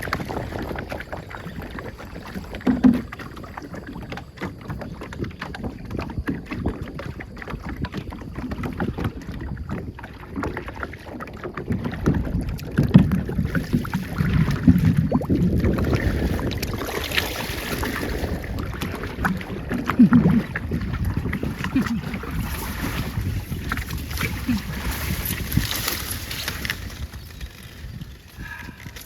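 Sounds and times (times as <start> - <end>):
water rushing past boat: 0.0 - 29.0
wind buffeting microphone: 0.0 - 29.0.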